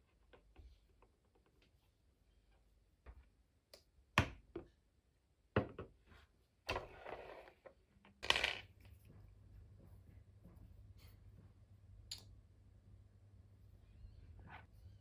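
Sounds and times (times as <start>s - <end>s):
faint steady low hum: 0.0s - 15.0s.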